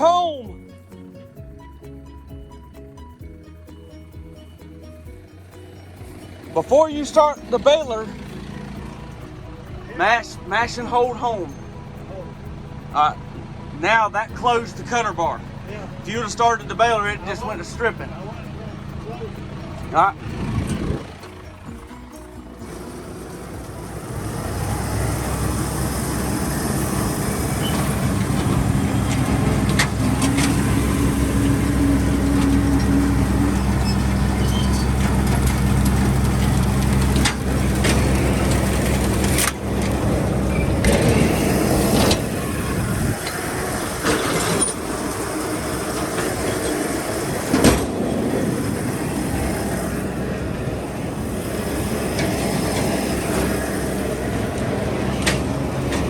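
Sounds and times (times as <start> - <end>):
tractor engine running: 0.0 - 56.0
machinery knocking: 10.4 - 56.0.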